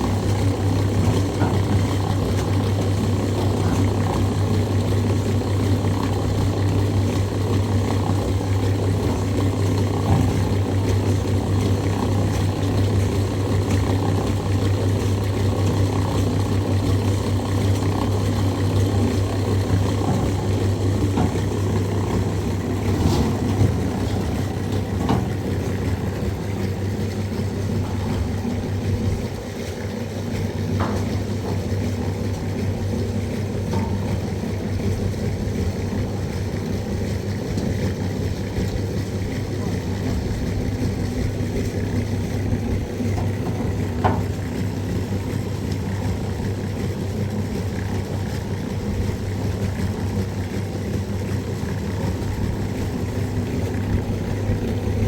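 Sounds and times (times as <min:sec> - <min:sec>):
motor running: 0:00.0 - 0:46.6.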